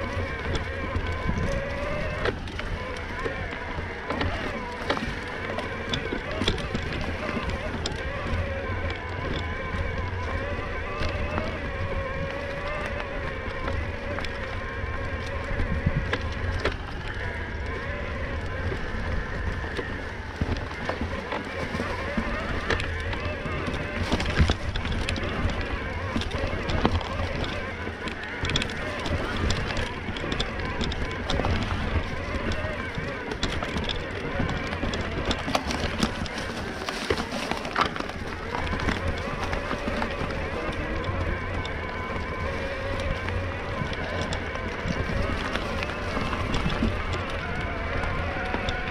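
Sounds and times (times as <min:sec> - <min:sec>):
electric bike motor whining: 0:00.0 - 0:48.9
tyres rumbling on trail: 0:00.0 - 0:48.9.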